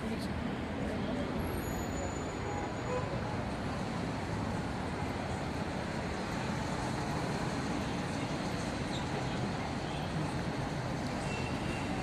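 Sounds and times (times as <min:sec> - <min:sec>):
city road traffic hum: 0:00.0 - 0:12.0.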